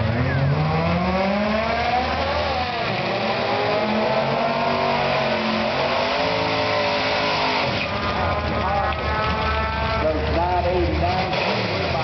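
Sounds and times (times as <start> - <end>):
car engines idling and revving: 0.0 - 12.0.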